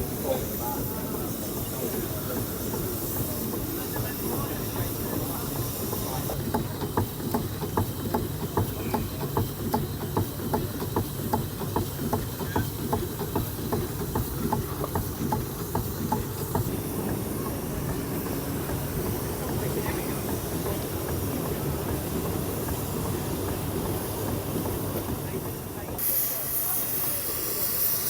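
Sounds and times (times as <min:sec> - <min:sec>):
steam engine hiss and rumble: 0:00.0 - 0:28.0
steam engine ticking: 0:00.0 - 0:28.0.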